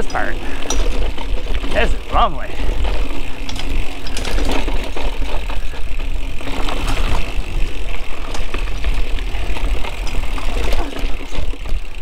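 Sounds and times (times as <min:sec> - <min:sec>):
bike tyres on dirt trail: 0:00.0 - 0:12.0
chain and frame rattling: 0:00.0 - 0:12.0.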